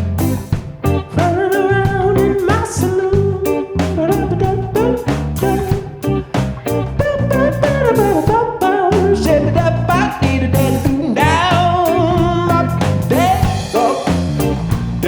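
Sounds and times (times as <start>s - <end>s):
live band playing upbeat song: 0.0s - 15.0s.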